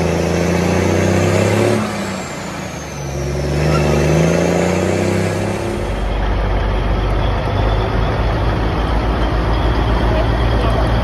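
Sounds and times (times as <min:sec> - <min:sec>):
diesel truck engine revving: 0:00.0 - 0:11.0
truck driving past: 0:00.0 - 0:11.0.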